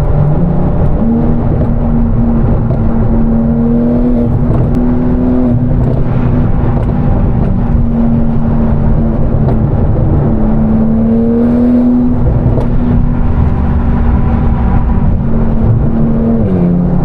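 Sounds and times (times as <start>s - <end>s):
sports car engine drone: 0.0s - 17.0s.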